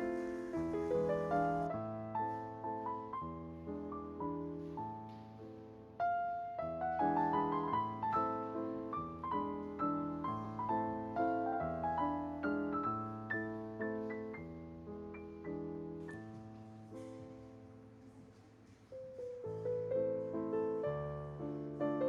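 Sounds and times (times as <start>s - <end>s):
gentle solo piano music: 0.0s - 22.0s.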